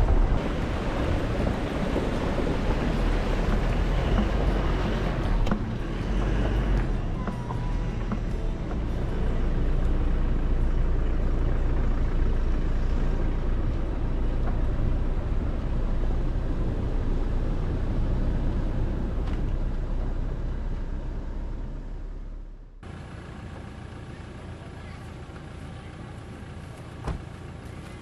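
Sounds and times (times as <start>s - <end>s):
pickup truck driving on dirt: 0.0s - 28.0s.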